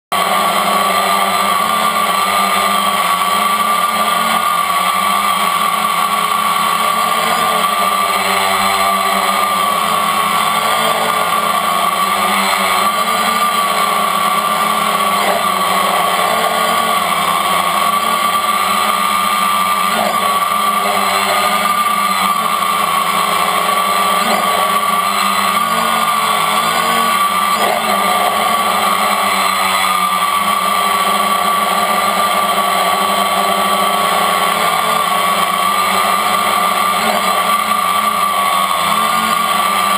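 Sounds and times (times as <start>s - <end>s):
drone motors whining: 0.1s - 39.9s.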